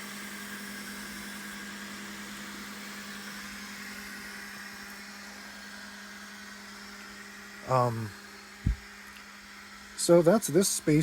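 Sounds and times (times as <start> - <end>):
machine hum and whirring: 0.0 - 11.0.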